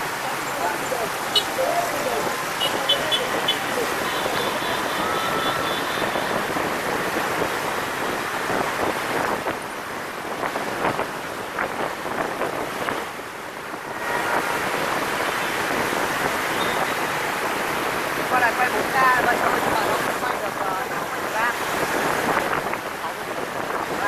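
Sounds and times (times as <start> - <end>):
city traffic: 0.0 - 24.0
wind rushing over microphone: 0.0 - 24.0.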